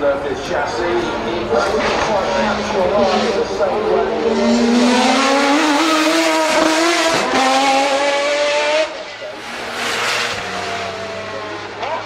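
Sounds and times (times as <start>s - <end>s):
race car engine at full throttle: 0.0s - 12.0s.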